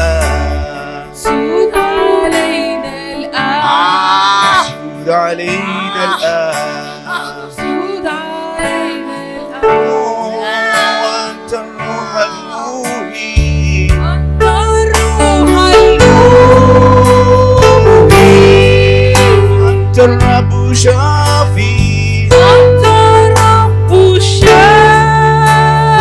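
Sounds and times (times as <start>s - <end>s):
instrumental accompaniment: 0.0s - 26.0s
person singing a hymn: 0.0s - 26.0s.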